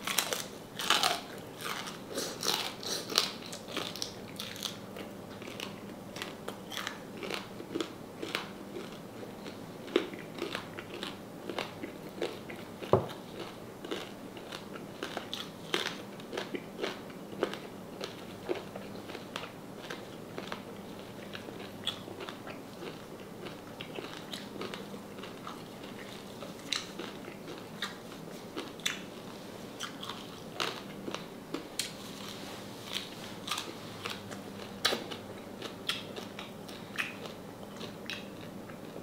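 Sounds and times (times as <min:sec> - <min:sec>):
crunchy chewing: 0:00.0 - 0:39.0.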